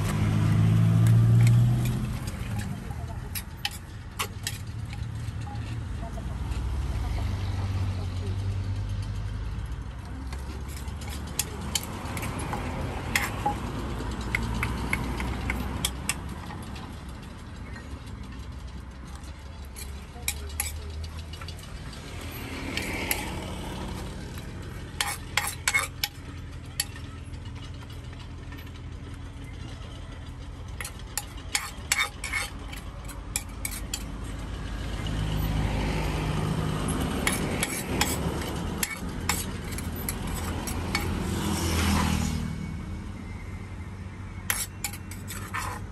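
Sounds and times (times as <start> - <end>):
utensils clinking and scraping: 0.0 - 7.3, 8.5 - 42.2, 44.4 - 45.9
street traffic hum: 0.0 - 45.9.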